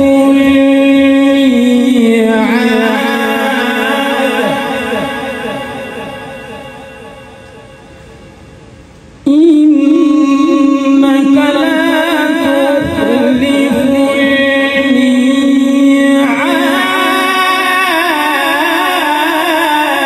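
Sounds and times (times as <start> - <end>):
man reciting melodically: 0.0 - 7.8, 9.3 - 20.0.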